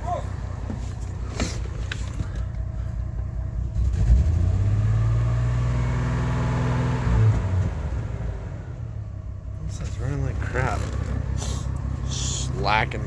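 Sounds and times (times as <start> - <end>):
car engine running rough: 0.0 - 13.0.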